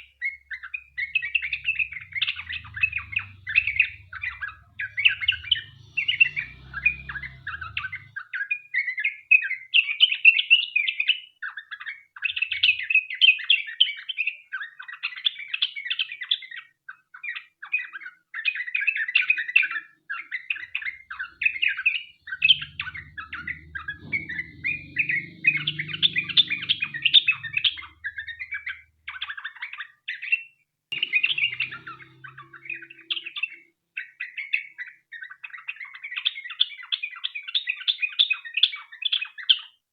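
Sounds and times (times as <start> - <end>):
bulbul singing: 0.0 - 16.3, 18.6 - 39.6.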